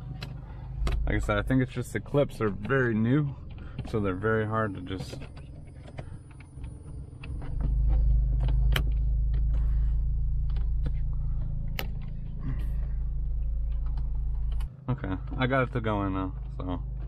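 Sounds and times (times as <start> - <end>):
steady deep rumble: 0.0 - 17.0.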